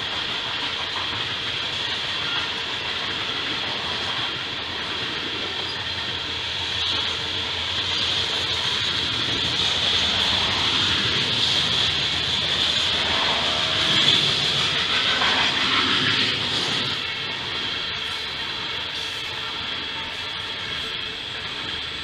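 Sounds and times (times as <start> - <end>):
freight train wheels on rail: 0.0 - 22.0.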